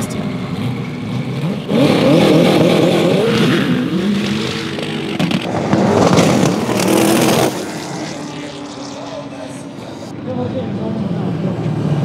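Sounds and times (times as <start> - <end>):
dune buggy engine revving: 0.0 - 10.1.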